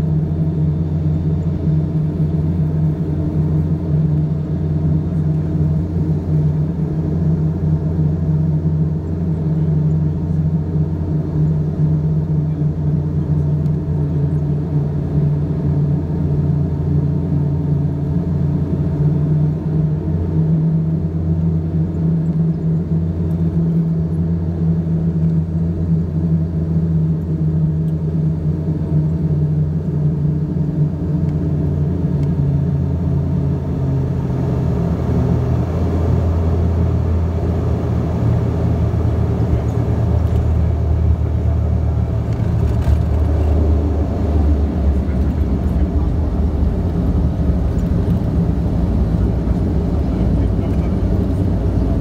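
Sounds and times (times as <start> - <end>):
landing gear rumble on runway: 0.0 - 52.0
turboprop propeller drone: 0.0 - 52.0.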